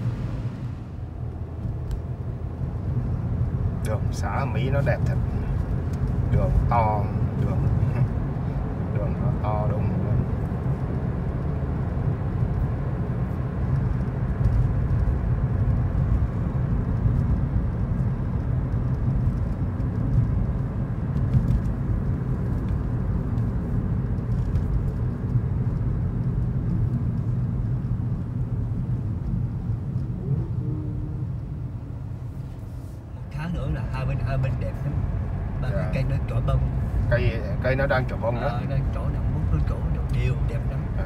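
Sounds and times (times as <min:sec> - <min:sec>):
car road noise rumble: 0:00.0 - 0:41.0.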